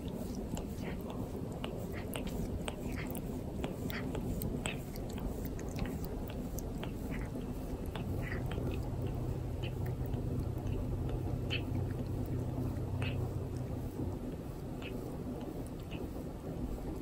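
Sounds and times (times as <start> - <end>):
cat tongue rasping on hair: 0.0 - 17.0
wet lapping: 0.0 - 17.0.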